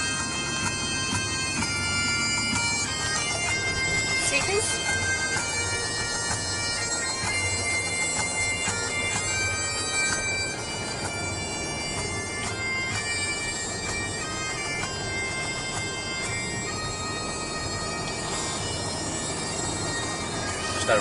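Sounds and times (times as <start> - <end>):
bagpipe music: 0.0 - 21.0.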